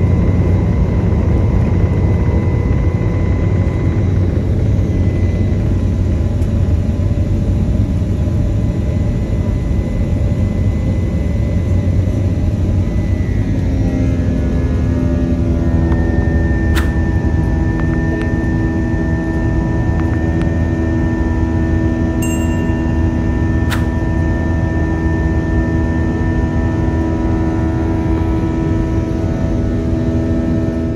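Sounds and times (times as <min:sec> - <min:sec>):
jet engine and airflow rumble: 0:00.0 - 0:30.9.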